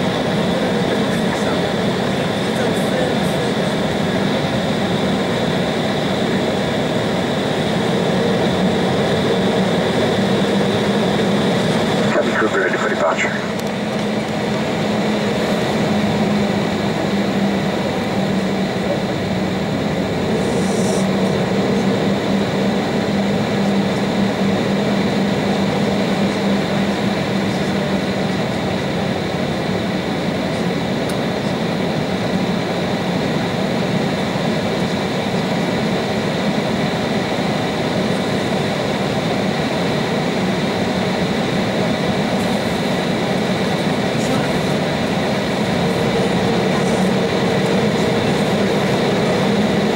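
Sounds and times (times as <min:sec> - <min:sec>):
jet engines at low power: 0:00.0 - 0:49.9
low drone: 0:00.0 - 0:49.9.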